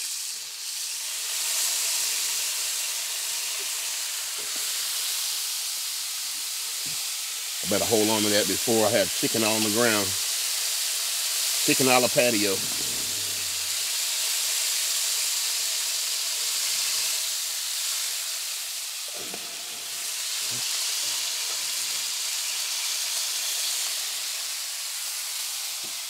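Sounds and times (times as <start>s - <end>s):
grill sizzling: 0.0s - 26.0s.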